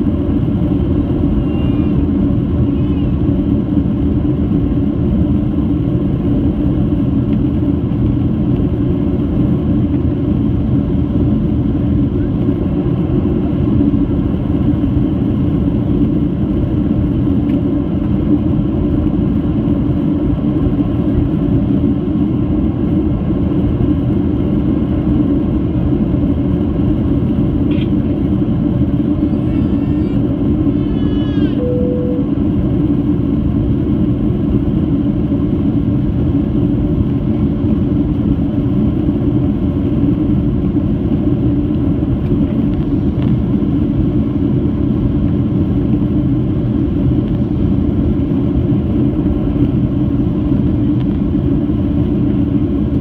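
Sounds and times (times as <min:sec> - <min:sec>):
jet engine cabin rumble: 0:00.0 - 0:53.0.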